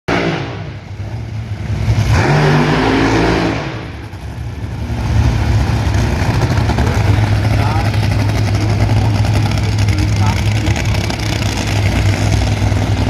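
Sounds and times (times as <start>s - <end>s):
racing engine revving: 0.1s - 13.0s.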